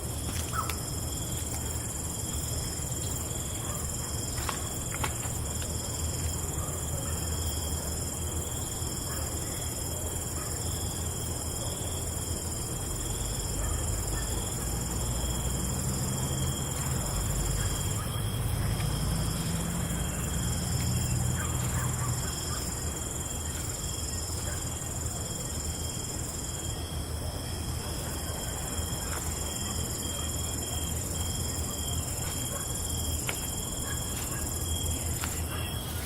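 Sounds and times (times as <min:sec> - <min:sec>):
crickets chirring: 0:00.0 - 0:36.0.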